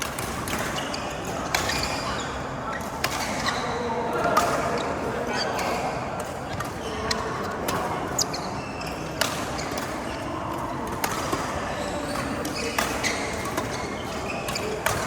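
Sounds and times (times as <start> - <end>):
racket hitting shuttlecock: 0.0 - 4.9, 5.6 - 15.0
sports hall background noise: 0.0 - 15.0.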